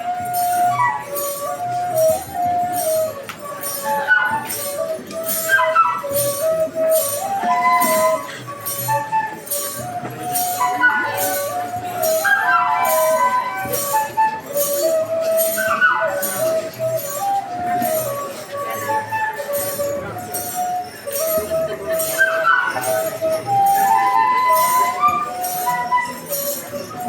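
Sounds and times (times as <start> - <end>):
ankle bells jingling: 0.0 - 27.0
flute playing lively melody: 0.0 - 27.0.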